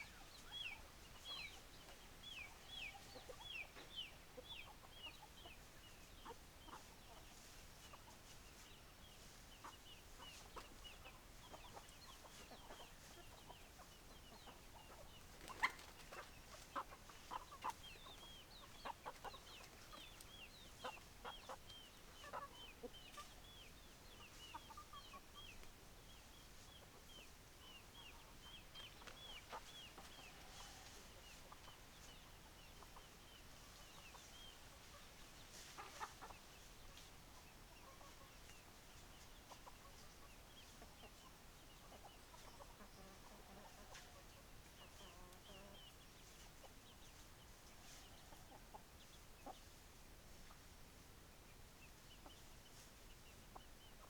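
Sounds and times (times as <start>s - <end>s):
chickens clucking faintly: 0.0s - 54.0s.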